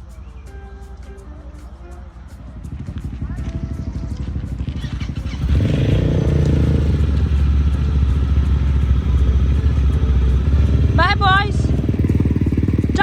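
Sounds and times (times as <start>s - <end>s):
atv engine rumbling: 0.0s - 13.0s.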